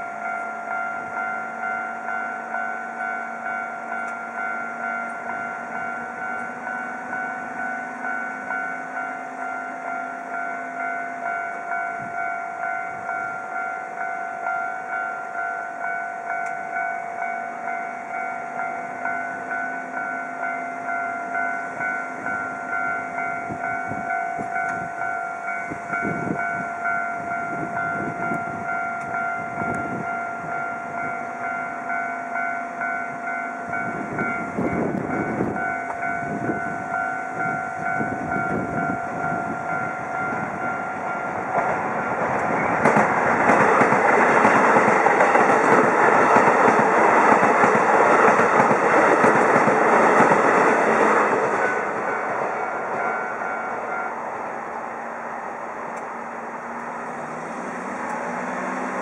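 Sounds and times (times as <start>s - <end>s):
level crossing warning bell: 0.0s - 55.4s
train approaching: 0.0s - 59.0s.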